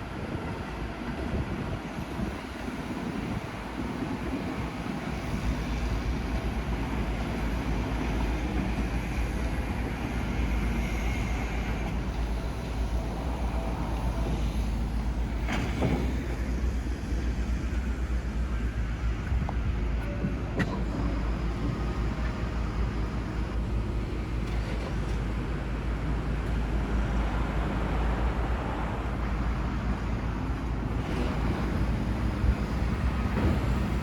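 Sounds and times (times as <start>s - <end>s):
electric train rumbling past: 0.0s - 34.0s.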